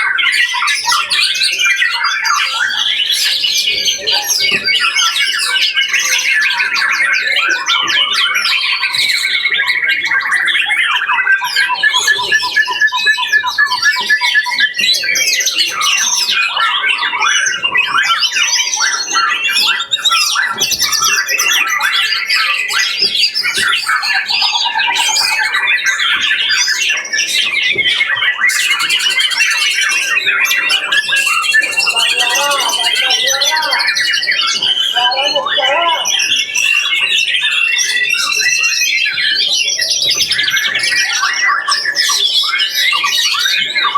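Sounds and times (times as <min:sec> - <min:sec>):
caged songbirds singing: 0:00.0 - 0:43.9
fast repeated bird trill: 0:00.0 - 0:43.9.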